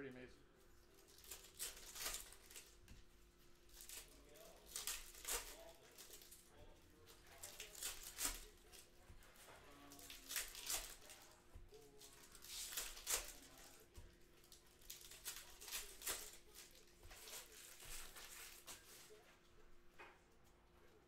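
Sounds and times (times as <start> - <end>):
foil wrapper crinkling and tearing: 0.5 - 19.2.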